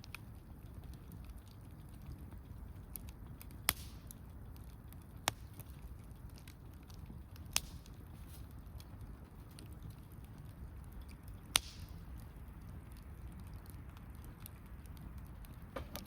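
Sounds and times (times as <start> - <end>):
campfire crackling: 0.0 - 16.0
sharp fire pops: 0.0 - 16.0.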